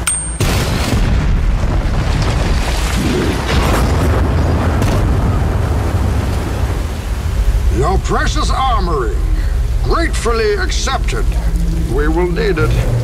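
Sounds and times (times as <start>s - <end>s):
deep rumbling rush: 0.5s - 13.0s.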